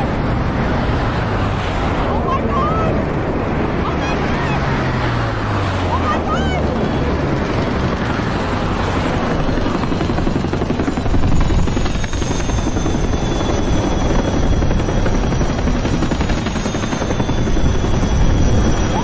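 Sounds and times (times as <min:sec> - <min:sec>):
helicopter rotor chop: 0:00.0 - 0:19.0.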